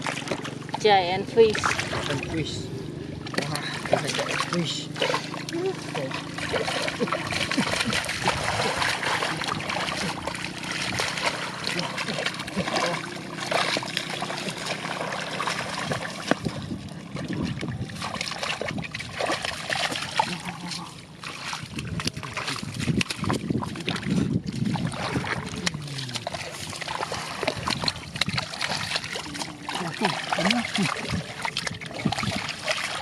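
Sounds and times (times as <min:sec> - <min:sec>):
muddy water splashing: 0:00.0 - 0:33.0.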